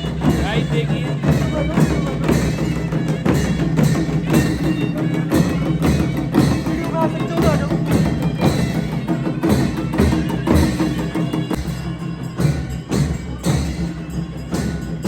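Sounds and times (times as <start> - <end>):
wood block beat: 0.0 - 15.0.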